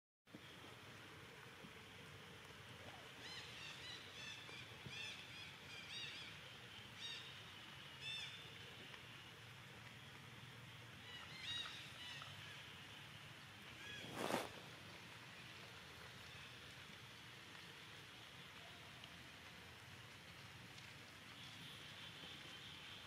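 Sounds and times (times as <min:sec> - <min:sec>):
steady high hiss: 0:00.3 - 0:23.0.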